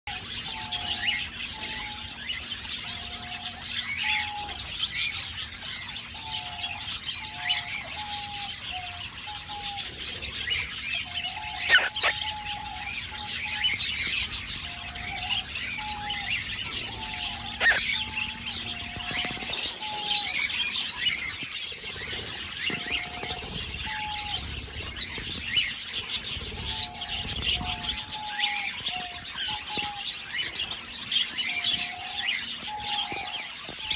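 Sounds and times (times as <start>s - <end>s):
birds chirping and twittering: 0.0s - 33.9s.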